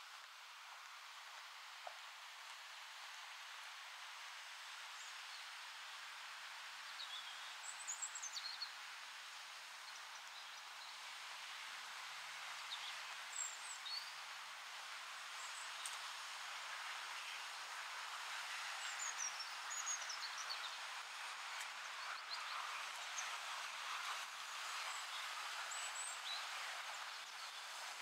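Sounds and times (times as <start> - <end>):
wind rustling through trees: 0.0 - 28.0.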